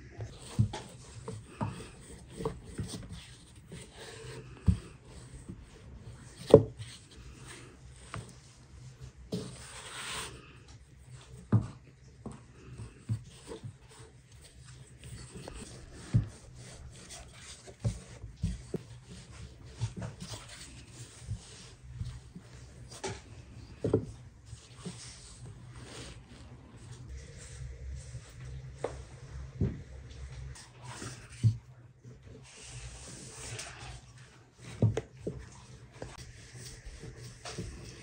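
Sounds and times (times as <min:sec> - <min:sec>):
rolling pin rubbing dough: 0:00.2 - 0:29.4, 0:30.5 - 0:38.0.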